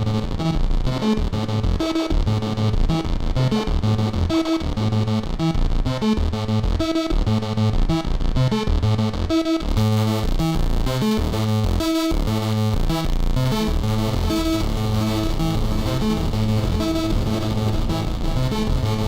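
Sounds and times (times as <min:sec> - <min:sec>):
synthesizer riff with bass line: 0:00.0 - 0:19.0.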